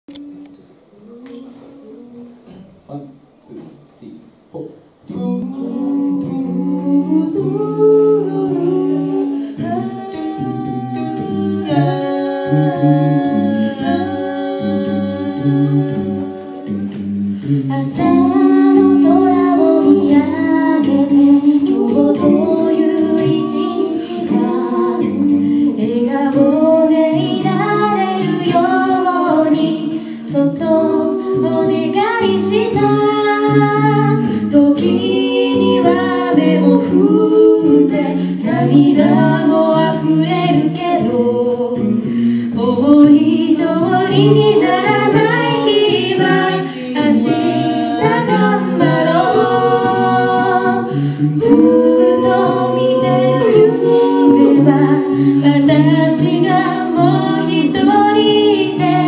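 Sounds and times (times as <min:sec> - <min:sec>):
a cappella group singing in harmony: 0:00.0 - 0:03.6, 0:04.6 - 0:59.0.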